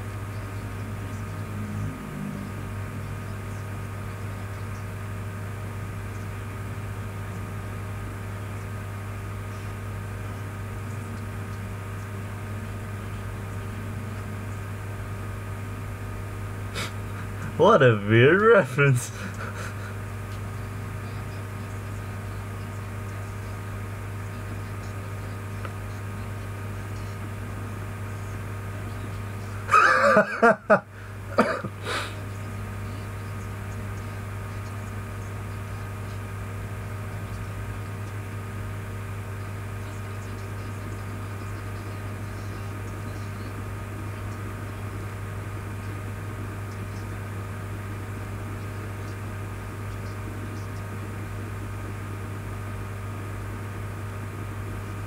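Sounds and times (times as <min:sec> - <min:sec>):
electrical hum and hiss: 0:00.0 - 0:55.0.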